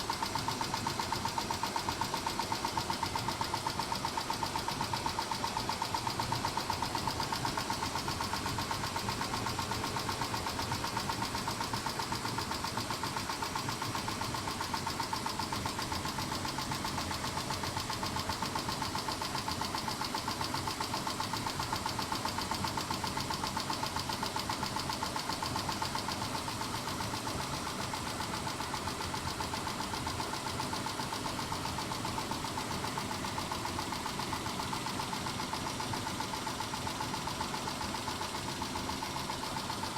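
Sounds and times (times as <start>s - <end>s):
rapid engine ticking: 0.1s - 39.9s.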